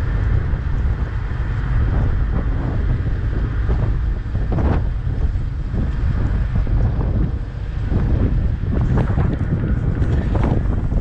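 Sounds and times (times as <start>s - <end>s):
water noise: 0.0s - 11.0s
wind buffeting microphone: 0.0s - 11.0s.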